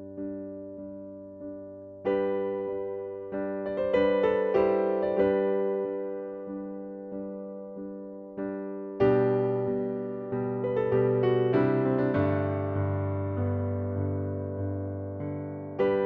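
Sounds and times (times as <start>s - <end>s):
gentle electric piano music: 0.0s - 16.0s.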